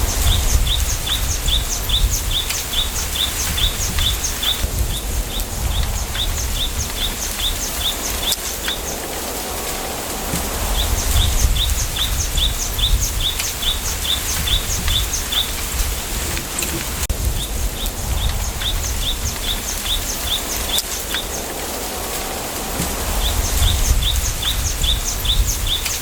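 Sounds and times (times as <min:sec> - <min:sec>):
wind through bamboo: 0:00.0 - 0:26.0.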